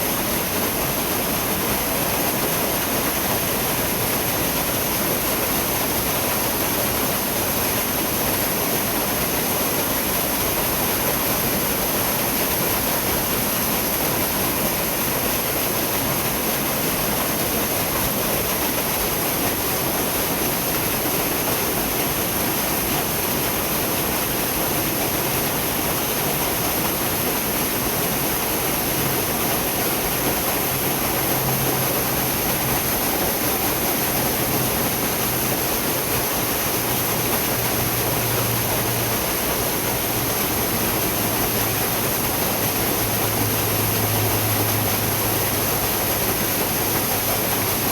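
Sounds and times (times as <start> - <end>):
river rushing over rocks: 0.0 - 47.9.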